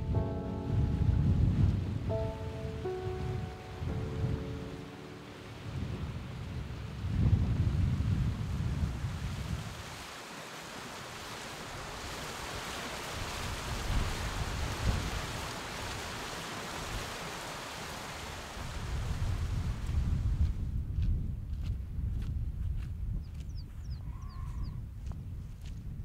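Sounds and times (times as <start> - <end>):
wind gusts buffeting microphone: 0.0 - 4.8, 5.4 - 10.1, 11.7 - 17.4, 18.1 - 26.0.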